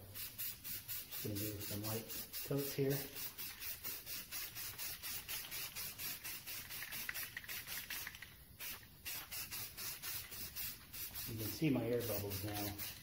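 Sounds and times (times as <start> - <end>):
aerosol can hissing: 0.1 - 13.0.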